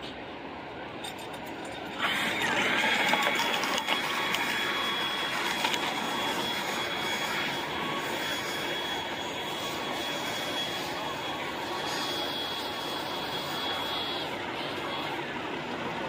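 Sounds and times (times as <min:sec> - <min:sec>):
leaf blower running: 0:02.0 - 0:15.5.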